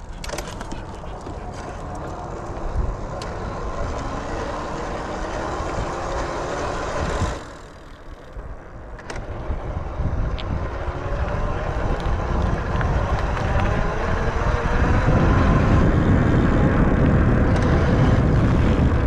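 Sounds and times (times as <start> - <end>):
road rumble: 0.0 - 19.0
vehicle engine running: 0.0 - 19.0.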